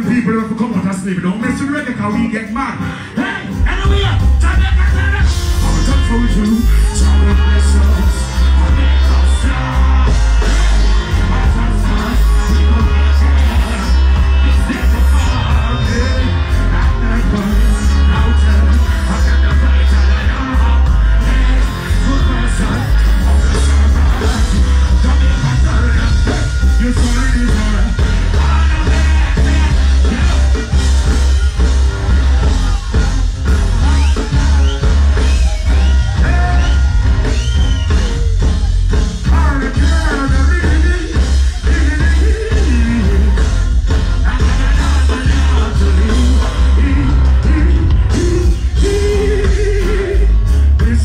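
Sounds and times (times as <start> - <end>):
live rock band playing: 0.0 - 51.0
person singing: 2.8 - 51.0.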